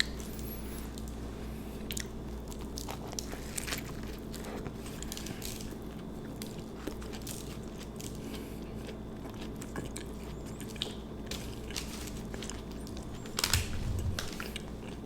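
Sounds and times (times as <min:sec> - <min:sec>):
chewing sandwich crunches: 0:00.0 - 0:15.0
steady low hum: 0:00.0 - 0:15.0.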